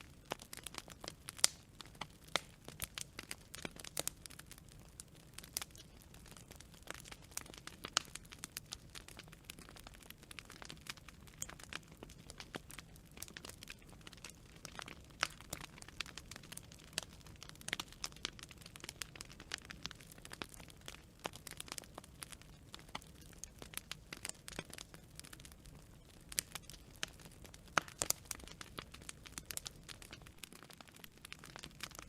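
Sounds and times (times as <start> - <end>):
low rumble of flames: 0.0 - 32.0
wood fire crackling and popping: 0.0 - 32.0.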